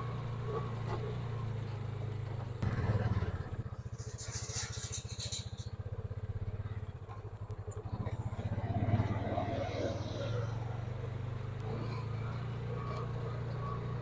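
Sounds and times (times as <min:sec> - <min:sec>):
utility vehicle engine idling: 0:00.0 - 0:14.0.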